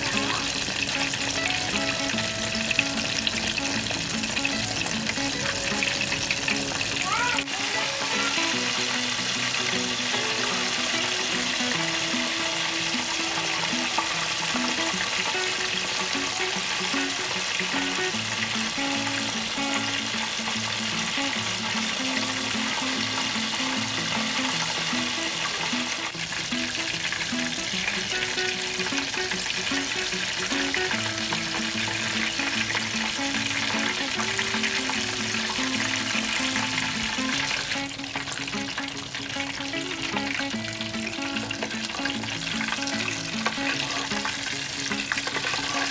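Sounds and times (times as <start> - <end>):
chicken deep-frying in oil: 0.0 - 45.9
soft background music: 0.0 - 45.9.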